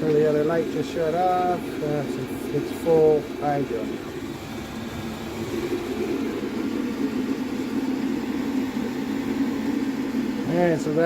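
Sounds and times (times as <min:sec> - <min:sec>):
air heater humming: 0:00.0 - 0:11.0.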